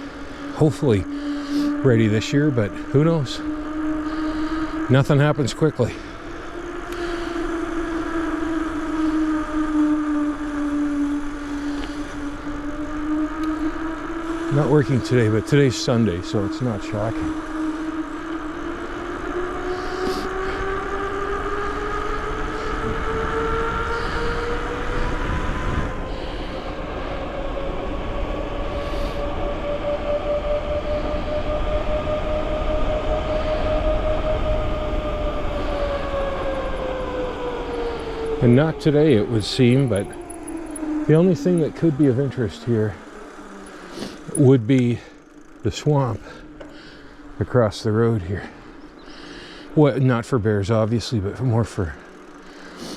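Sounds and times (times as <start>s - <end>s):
low wind rumble: 0.0s - 52.8s
motorbike whine: 0.0s - 52.9s.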